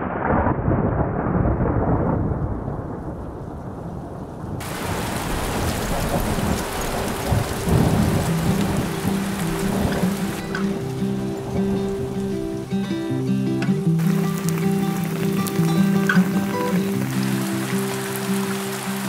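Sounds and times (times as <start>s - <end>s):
rain pouring: 0.0s - 19.0s
thunder rumbling: 0.0s - 19.0s.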